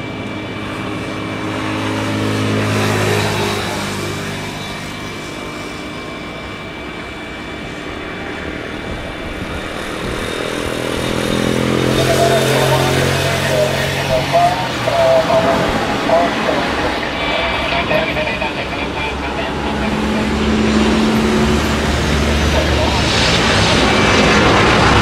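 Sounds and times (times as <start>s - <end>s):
jet engines humming and whining: 0.0s - 25.0s.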